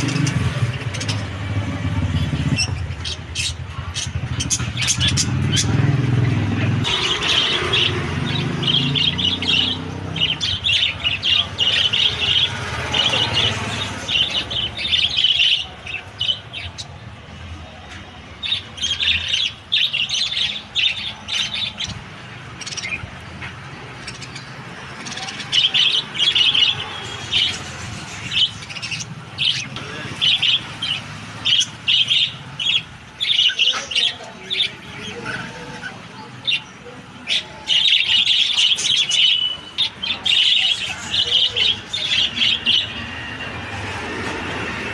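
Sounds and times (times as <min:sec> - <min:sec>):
parrots chirping: 0:00.0 - 0:44.9.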